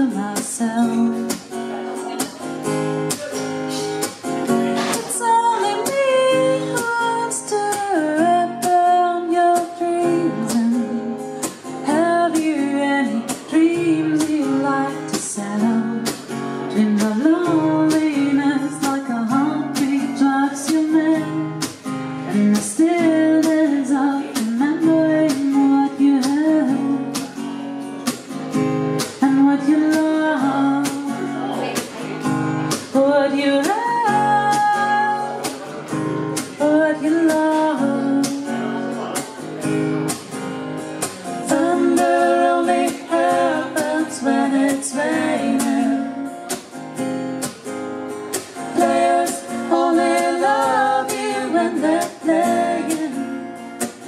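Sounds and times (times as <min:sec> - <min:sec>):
woman singing: 0:00.0 - 0:01.6, 0:04.8 - 0:27.3, 0:29.0 - 0:31.9, 0:32.7 - 0:35.6, 0:36.4 - 0:39.2, 0:41.0 - 0:46.6, 0:48.4 - 0:54.0
acoustic guitar strumming: 0:00.0 - 0:54.0.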